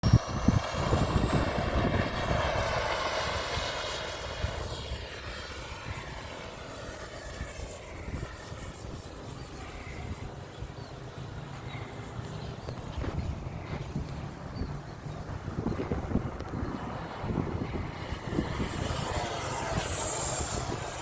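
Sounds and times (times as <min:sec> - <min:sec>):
electric ducted fans whining: 0:00.0 - 0:21.0.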